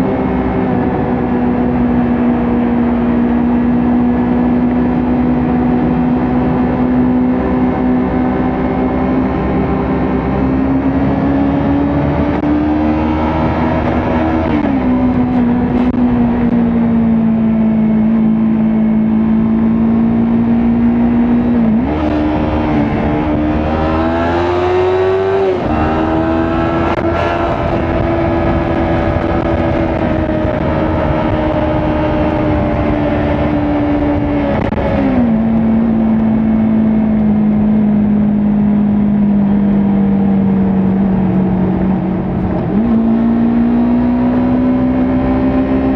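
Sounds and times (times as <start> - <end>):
motorcycle engine at speed: 0.0 - 45.9.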